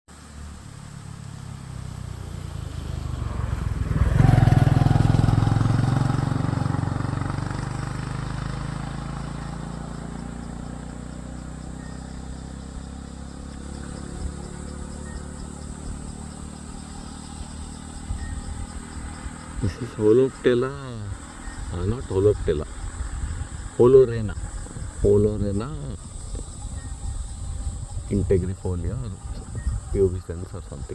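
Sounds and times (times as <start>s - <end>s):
high insect drone: 0.1s - 30.9s
vehicle engine passing by: 0.1s - 30.9s.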